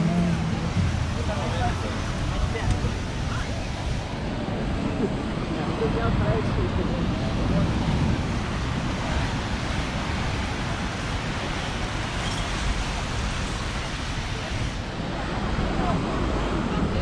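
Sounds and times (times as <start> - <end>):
faint voices: 0.0 - 11.8, 12.6 - 17.0
ocean surf on sand: 0.0 - 17.0
wind buffeting microphone: 0.0 - 17.0.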